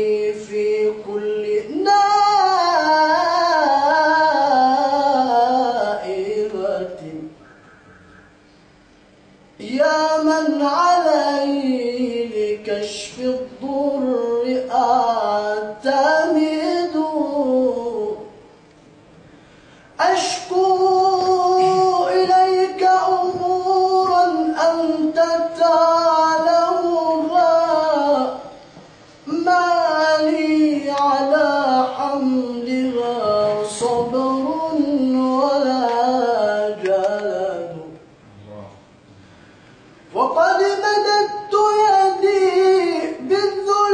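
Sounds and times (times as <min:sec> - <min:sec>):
man singing unaccompanied: 0:00.0 - 0:07.4, 0:09.6 - 0:18.4, 0:20.0 - 0:28.6, 0:29.2 - 0:38.1, 0:40.1 - 0:43.9.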